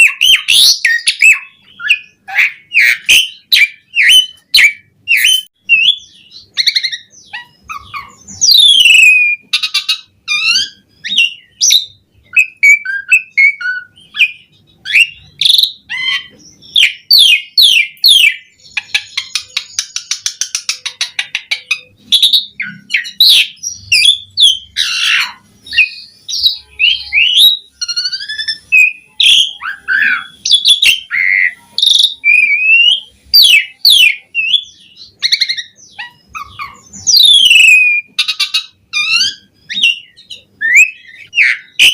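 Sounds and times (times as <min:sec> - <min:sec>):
starling singing: 0:00.0 - 0:41.9.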